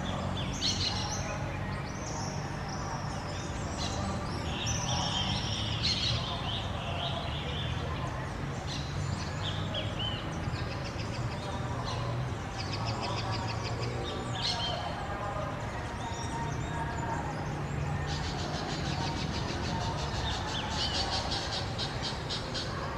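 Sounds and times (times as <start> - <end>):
small birds chirping and trilling: 0.0 - 22.9.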